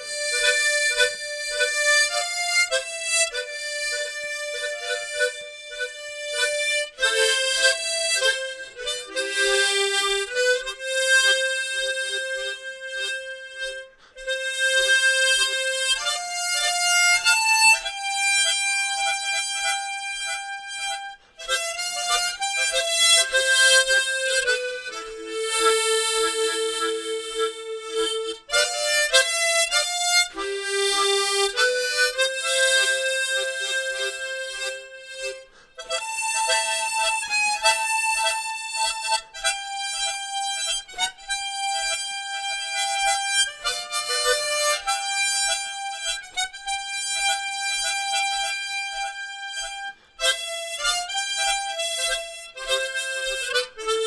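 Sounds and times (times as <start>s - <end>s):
harmonica playing slow melody: 0.0s - 54.0s.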